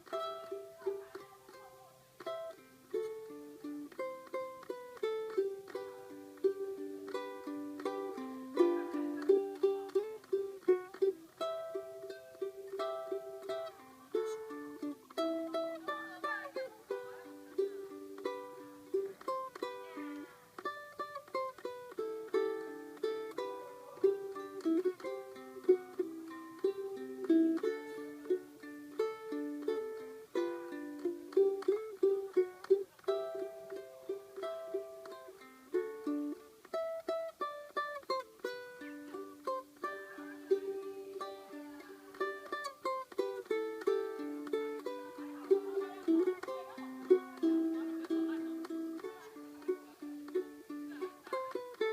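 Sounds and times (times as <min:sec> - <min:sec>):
ukulele melody: 0:00.0 - 0:51.9.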